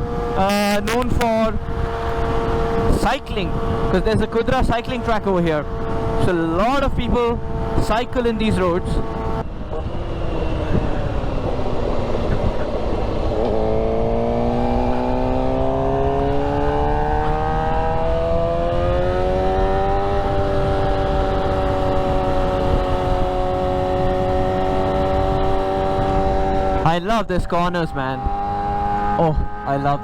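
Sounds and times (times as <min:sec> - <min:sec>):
motorcycle engine accelerating: 0:00.0 - 0:30.0
wind rushing over microphone: 0:00.0 - 0:30.0.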